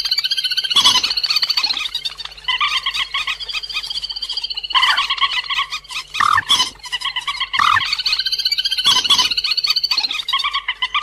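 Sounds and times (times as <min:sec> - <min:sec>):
bird chattering calls: 0:00.0 - 0:11.0.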